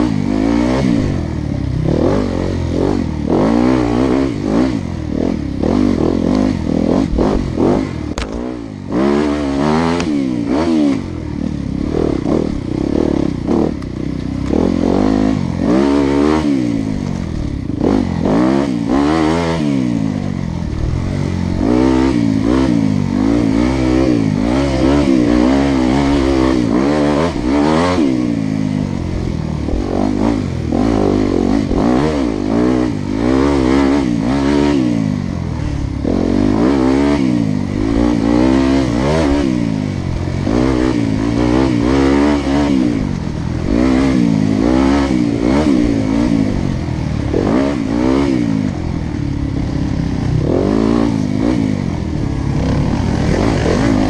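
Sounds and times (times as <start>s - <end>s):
engines revving: 0.0s - 54.0s.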